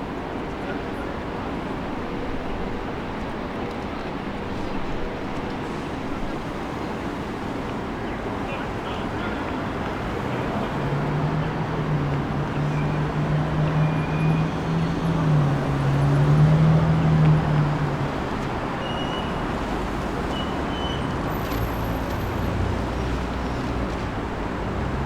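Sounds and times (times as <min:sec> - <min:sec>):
urban traffic noise: 0:00.0 - 0:25.0.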